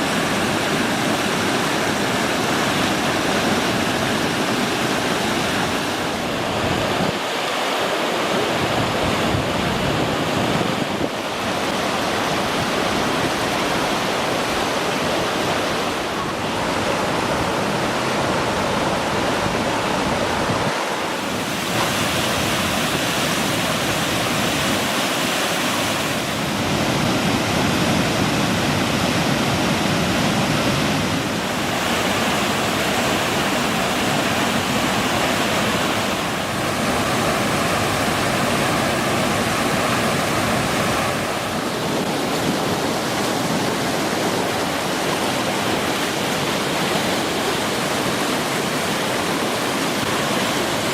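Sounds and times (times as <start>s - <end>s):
waterfall rushing over rock: 0.0s - 50.9s.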